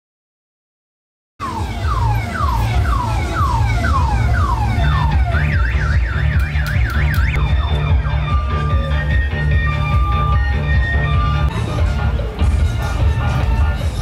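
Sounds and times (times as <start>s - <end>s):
car alarm whooping and warbling: 1.4s - 14.0s
music with heavy bass beat: 1.4s - 14.0s.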